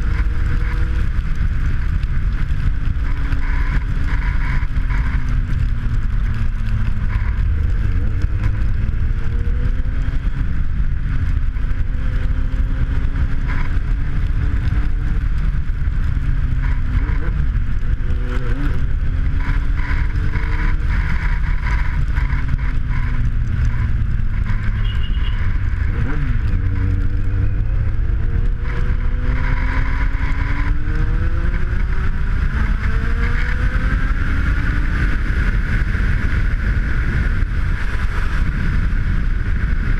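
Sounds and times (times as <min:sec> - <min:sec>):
motorcycle engine accelerating: 0:00.0 - 0:39.9
wind rumbling on microphone: 0:00.0 - 0:39.9.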